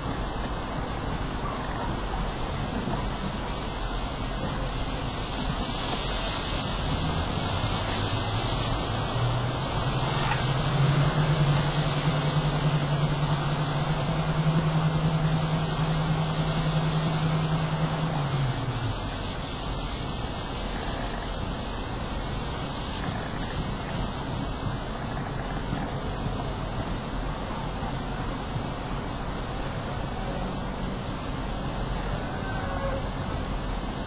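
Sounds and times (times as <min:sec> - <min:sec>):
tractor engine at full power: 0:00.0 - 0:32.3
steady hiss: 0:00.0 - 0:34.0.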